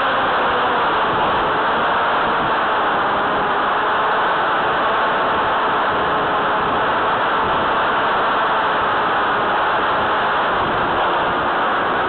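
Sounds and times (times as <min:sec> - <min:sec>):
airflow over camera: 0:00.0 - 0:12.0
model plane motor and propeller: 0:00.0 - 0:12.0.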